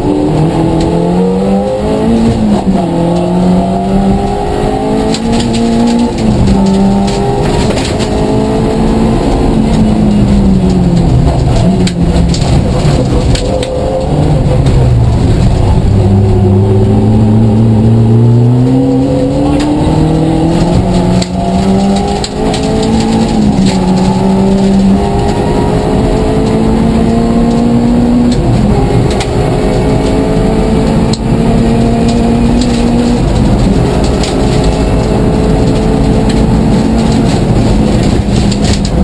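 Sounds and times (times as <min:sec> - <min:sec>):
car engine at full throttle: 0:00.0 - 0:39.0.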